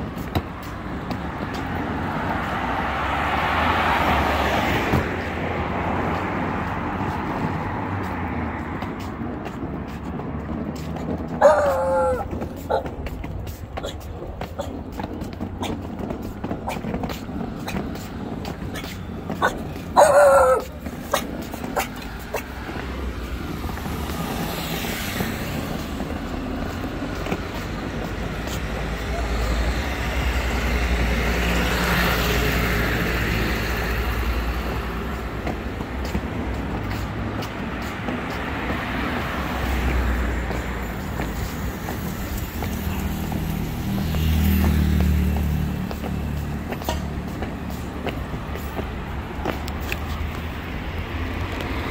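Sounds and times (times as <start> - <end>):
road traffic: 0.0 - 51.9.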